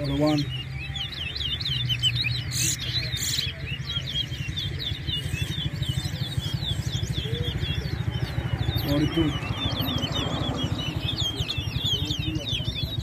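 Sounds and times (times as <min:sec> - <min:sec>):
finches twittering chirps: 0:00.0 - 0:13.0.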